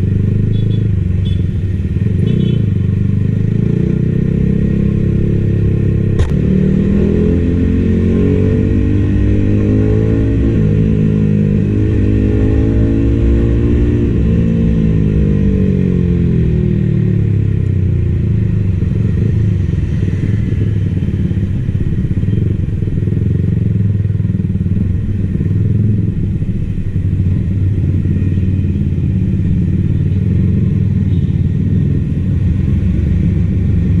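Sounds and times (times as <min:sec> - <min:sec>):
motorcycle engine revving and idling: 0:00.0 - 0:34.0.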